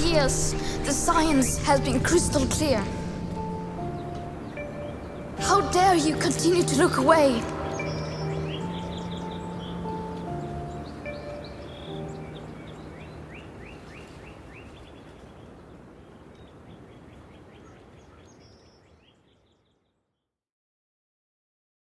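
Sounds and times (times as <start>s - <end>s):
steady background hiss: 0.0s - 18.8s
birds chirping: 0.0s - 20.0s.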